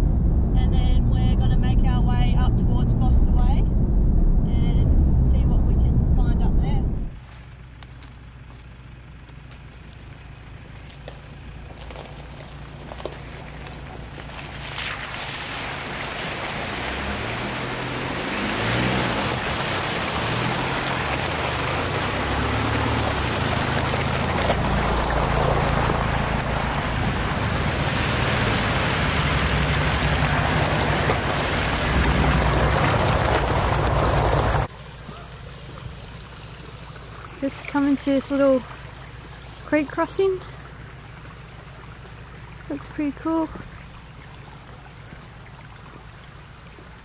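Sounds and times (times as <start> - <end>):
low engine drone: 0.0 - 47.0
wind and road noise: 0.0 - 47.0.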